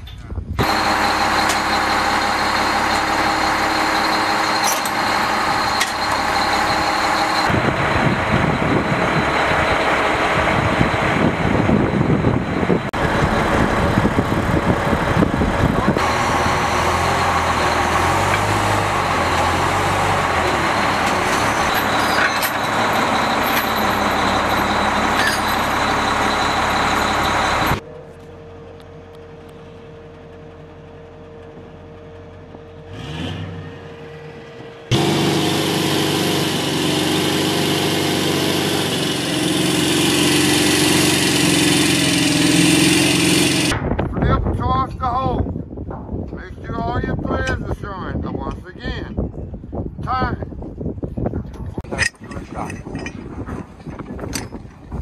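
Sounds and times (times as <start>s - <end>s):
heavy vehicle engines and machinery: 0.0s - 55.0s.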